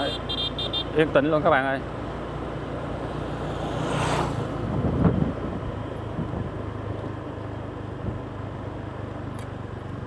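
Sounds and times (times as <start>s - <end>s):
road and wind noise: 0.0s - 10.0s.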